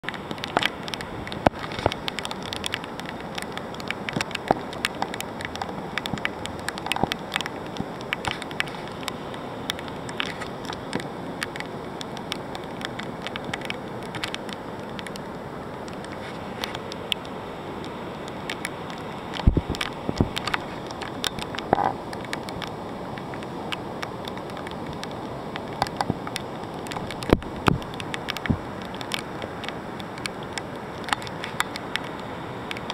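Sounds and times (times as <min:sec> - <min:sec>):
rain hissing: 0:00.0 - 0:32.9
raindrops ticking on a surface: 0:00.0 - 0:32.9.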